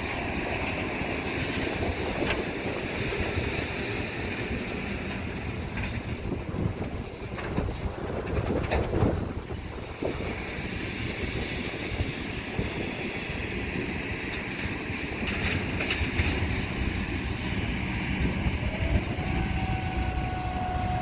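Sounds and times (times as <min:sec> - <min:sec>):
harvest machinery running: 0:00.0 - 0:21.0
wind on microphone: 0:00.0 - 0:21.0.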